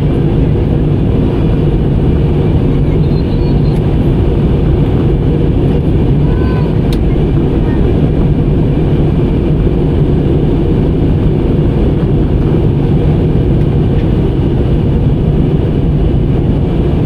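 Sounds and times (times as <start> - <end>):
airliner cabin engine rush: 0.0 - 17.0.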